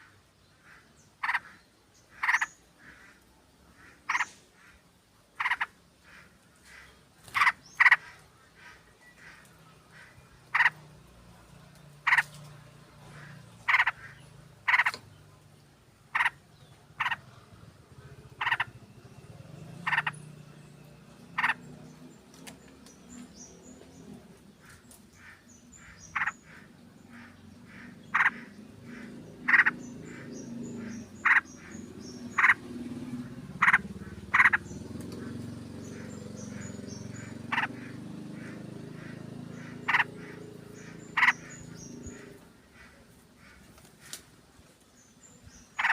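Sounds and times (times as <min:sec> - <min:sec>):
loud bird chirping: 0:00.0 - 0:04.8, 0:05.4 - 0:44.2, 0:45.0 - 0:45.9.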